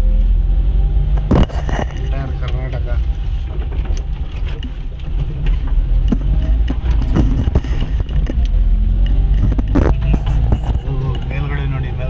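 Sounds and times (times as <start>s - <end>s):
car engine and road rumble: 0.0s - 12.0s
knocks and rattles from bumps: 1.2s - 11.3s.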